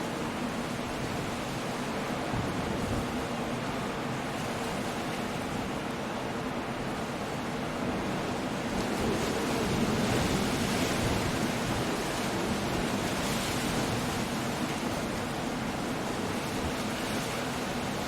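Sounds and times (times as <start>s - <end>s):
sea surf: 0.0s - 18.0s
wind: 0.0s - 18.0s.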